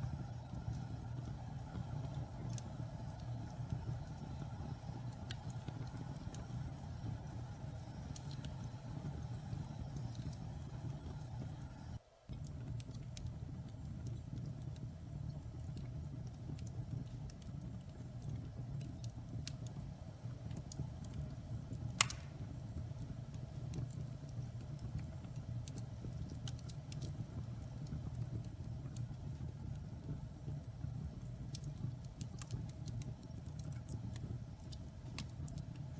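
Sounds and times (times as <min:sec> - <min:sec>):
fire crackling and popping: 0:00.0 - 0:35.9
fire flames rumbling: 0:00.0 - 0:35.9.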